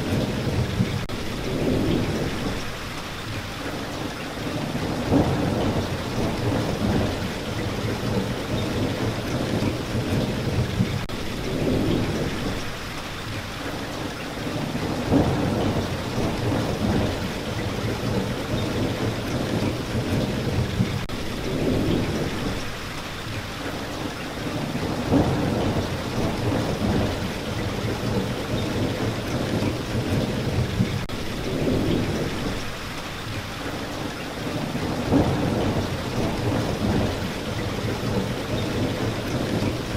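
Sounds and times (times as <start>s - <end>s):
low rolling thunder: 0.0s - 2.8s, 4.5s - 12.7s, 14.5s - 22.7s, 24.5s - 32.8s, 34.4s - 39.9s
steady rain: 0.0s - 39.9s.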